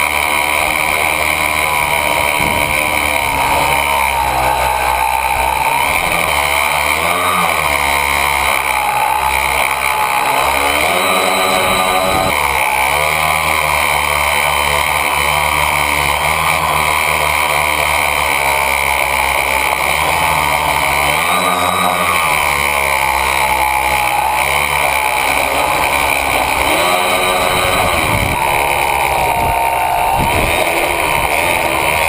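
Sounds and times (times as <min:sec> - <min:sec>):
drone motors and propellers whirring: 0:00.0 - 0:32.0.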